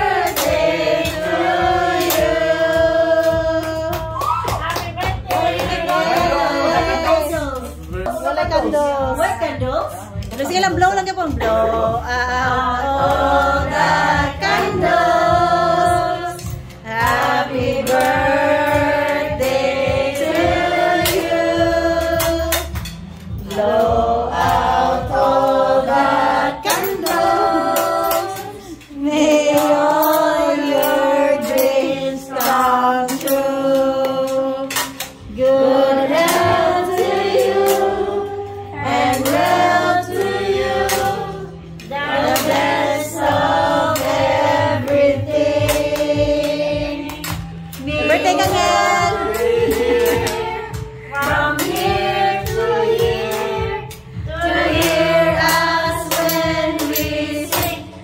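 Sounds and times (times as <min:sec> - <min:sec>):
low musical accompaniment: 0:00.0 - 0:58.0
several voices singing: 0:00.0 - 0:58.0.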